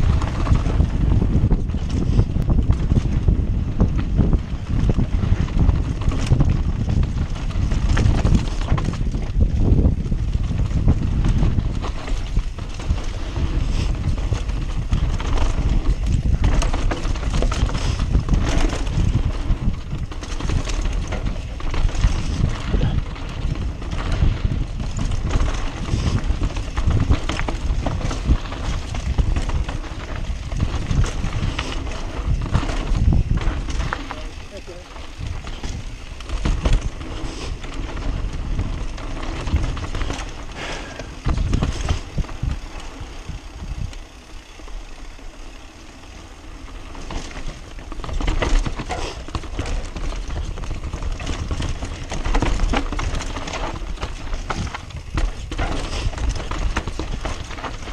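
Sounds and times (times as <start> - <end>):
bike rattling and knocking: 0.0 - 57.9
wind buffeting microphone: 0.0 - 57.9.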